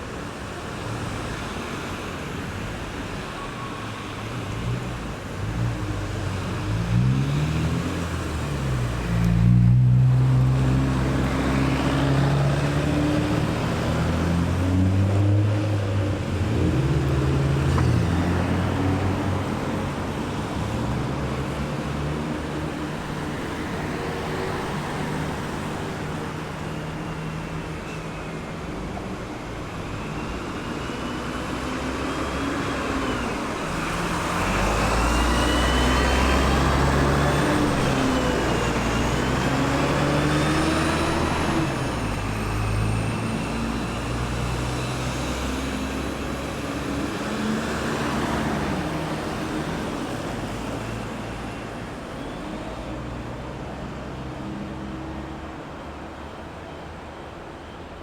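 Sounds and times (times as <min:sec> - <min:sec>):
cars passing: 0:04.3 - 0:58.0.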